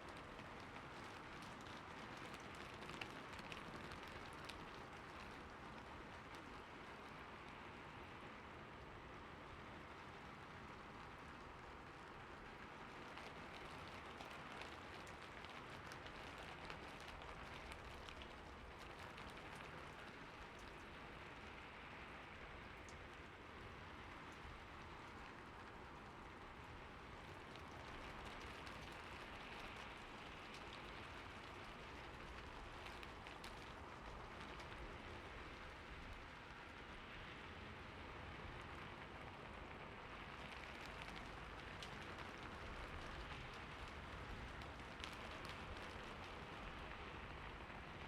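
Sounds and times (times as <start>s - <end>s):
soft steady rain: 0.0s - 48.0s.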